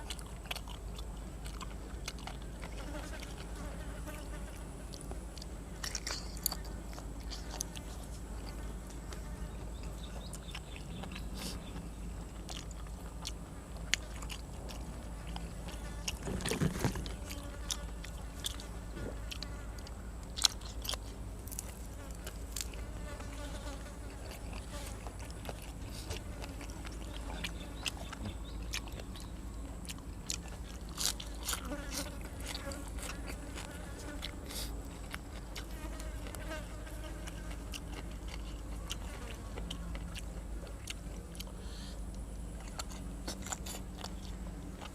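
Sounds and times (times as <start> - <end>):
chewing and crunching: 0.0 - 44.9.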